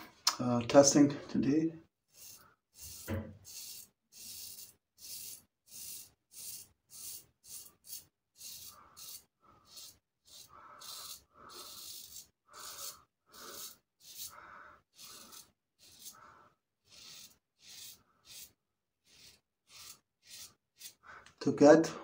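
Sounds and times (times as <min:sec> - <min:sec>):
razor scraping through stubble: 0:02.1 - 0:16.2, 0:16.8 - 0:21.0.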